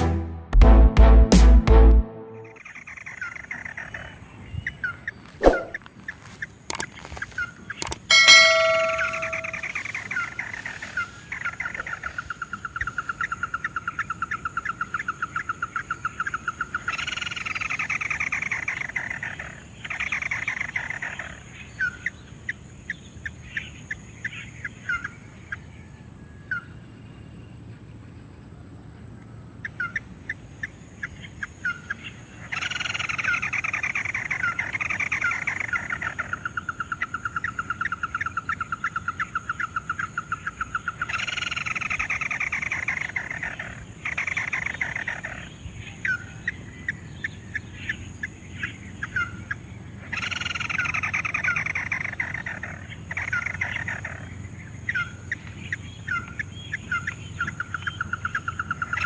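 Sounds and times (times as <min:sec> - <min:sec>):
crake calls: 0:02.6 - 0:22.6, 0:29.6 - 0:59.0.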